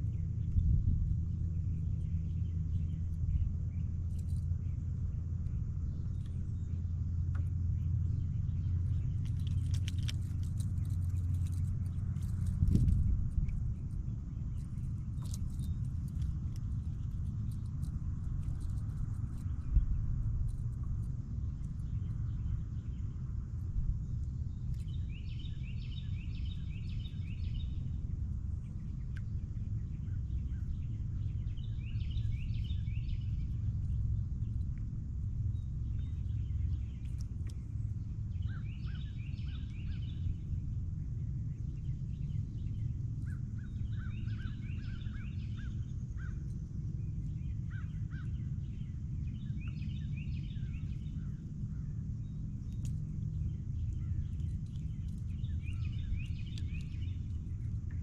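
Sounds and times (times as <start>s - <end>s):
lower bird chirps: 0.0s - 58.0s
steady low rumble: 0.0s - 58.0s.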